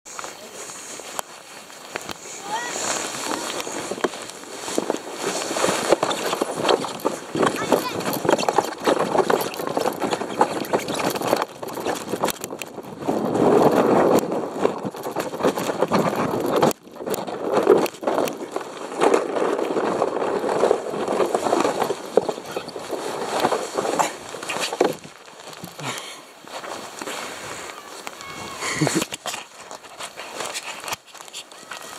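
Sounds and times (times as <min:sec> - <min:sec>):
sledge scraping over snow: 0:00.1 - 0:31.9.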